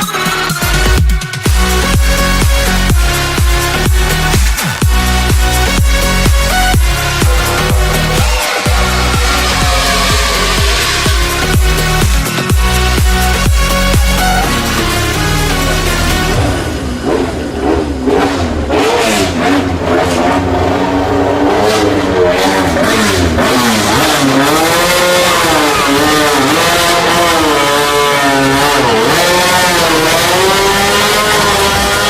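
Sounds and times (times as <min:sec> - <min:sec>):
racing motorcycle engine revving: 0:00.8 - 0:32.0.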